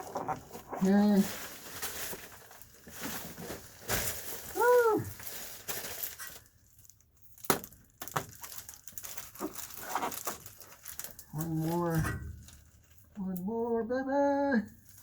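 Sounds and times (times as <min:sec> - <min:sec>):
foil insulation and tape crinkling: 0:00.0 - 0:13.7, 0:14.8 - 0:15.0.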